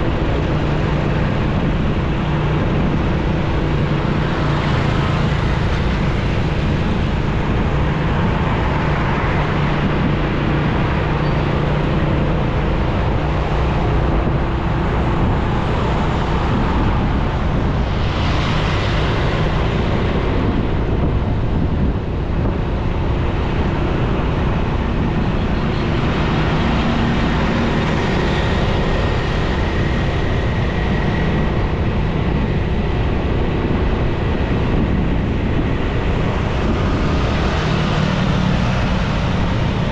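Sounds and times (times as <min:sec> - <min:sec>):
road and wind noise: 0:00.0 - 0:39.9
surrounding traffic: 0:00.0 - 0:39.9.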